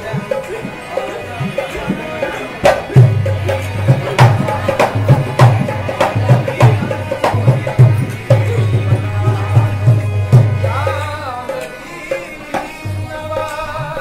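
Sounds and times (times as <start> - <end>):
hand drum beat: 0.0 - 11.7
harmonium holding steady tones: 0.0 - 14.0.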